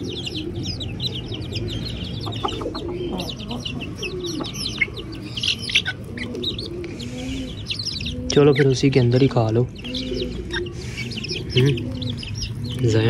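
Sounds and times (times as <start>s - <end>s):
chickens clucking: 0.0s - 13.0s
chicks peeping and chirping: 0.0s - 13.0s.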